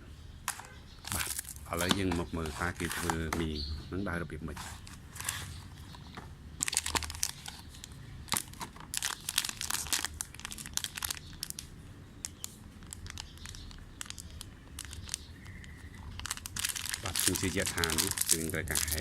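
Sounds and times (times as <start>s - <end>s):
plastic packaging crinkling: 0.5s - 3.4s, 6.6s - 19.0s.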